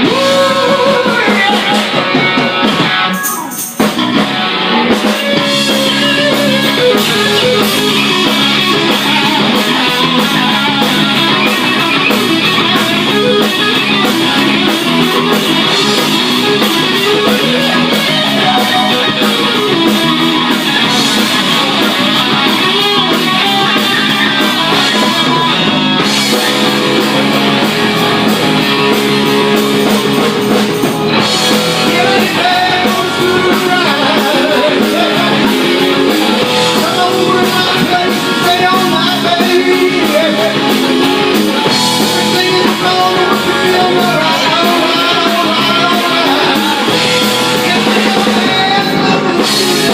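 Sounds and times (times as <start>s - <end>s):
bass guitar: 0.0s - 49.9s
drum kit: 0.0s - 49.9s
electric guitar: 0.0s - 49.9s.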